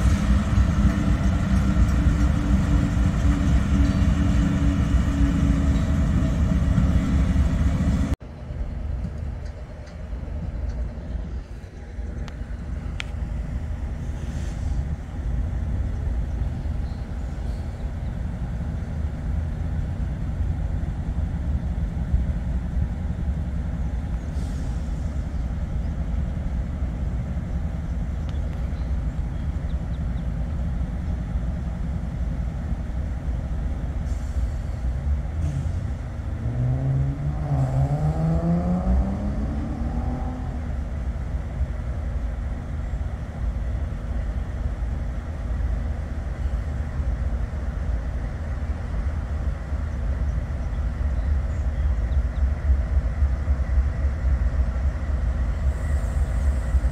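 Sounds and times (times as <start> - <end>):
diesel locomotive engine drone: 0.0 - 56.9
low rumble of train rolling: 0.0 - 56.9.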